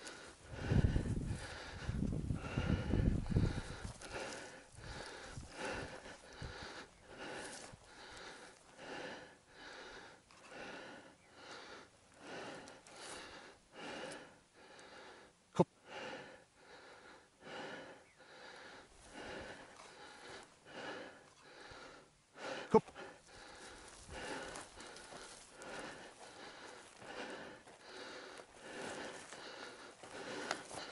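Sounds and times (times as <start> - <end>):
person breathing heavily: 0.0 - 30.9.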